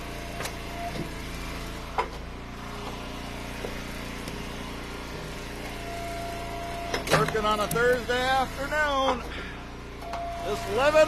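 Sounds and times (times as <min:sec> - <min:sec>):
wood splitter engine running: 0:00.0 - 0:11.0.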